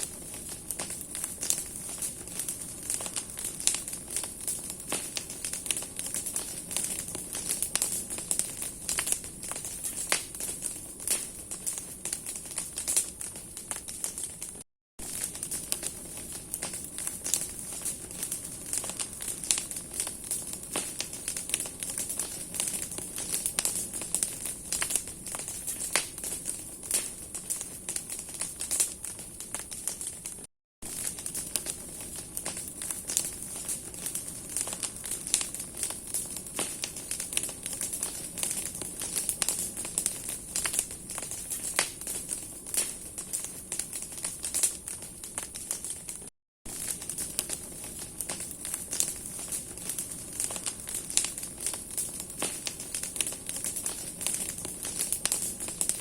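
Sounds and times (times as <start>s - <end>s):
fire hissing: 0.0s - 30.1s, 30.9s - 46.0s, 46.7s - 56.0s
bonfire crackling and popping: 0.0s - 56.0s.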